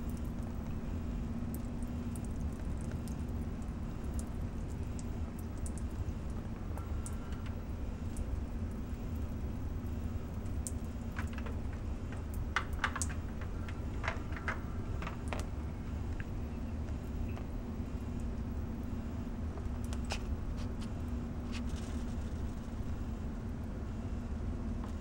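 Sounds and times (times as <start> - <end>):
small drips and ticks: 0.0 - 25.0
steady low hum: 0.0 - 25.0.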